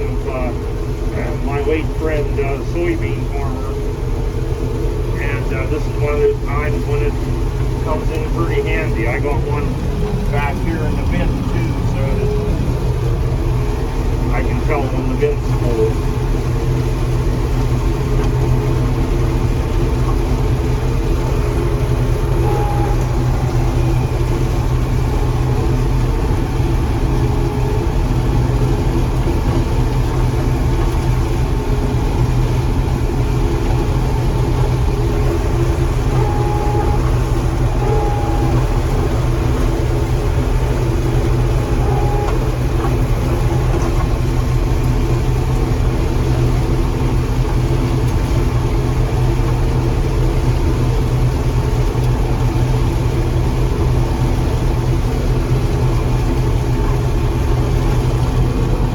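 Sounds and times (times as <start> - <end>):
combine engine drone: 0.0 - 58.9
threshing machinery hum: 0.0 - 58.9.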